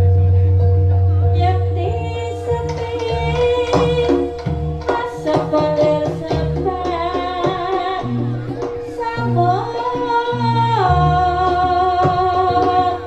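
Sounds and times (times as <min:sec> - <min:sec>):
wavering melodic tones: 0:00.0 - 0:13.0
person singing: 0:01.2 - 0:13.0.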